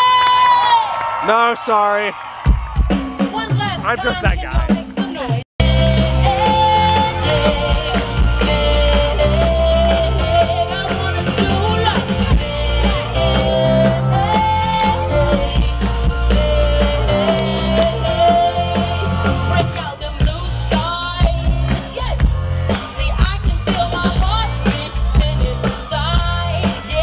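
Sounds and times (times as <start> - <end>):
live rock band playing: 2.5 - 27.0.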